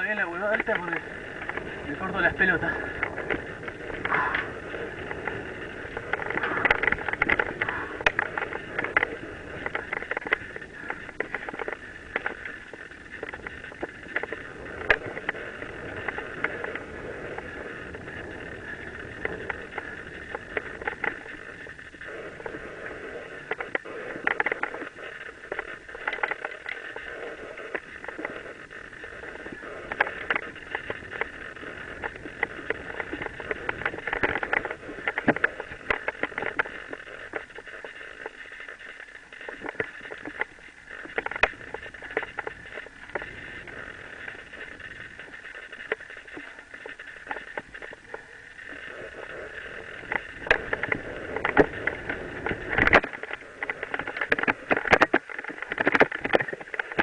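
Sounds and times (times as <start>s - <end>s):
mountain bike tyres and rattle: 0.0s - 57.0s.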